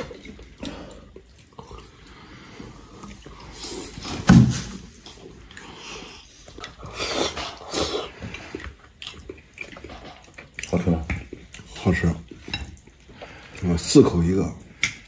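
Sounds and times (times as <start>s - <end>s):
slurping and chewing: 0.0s - 15.0s.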